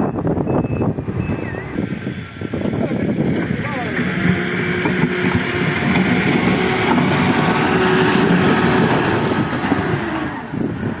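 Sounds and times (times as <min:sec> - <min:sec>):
heavy machinery diesel engines: 0:00.0 - 0:11.0.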